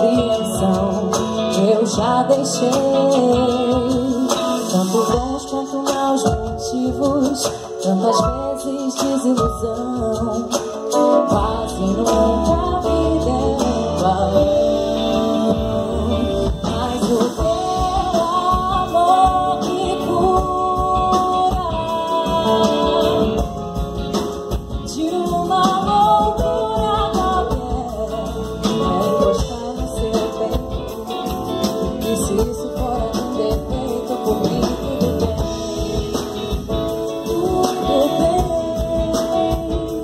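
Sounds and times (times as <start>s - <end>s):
live pop band playing: 0.0s - 40.0s.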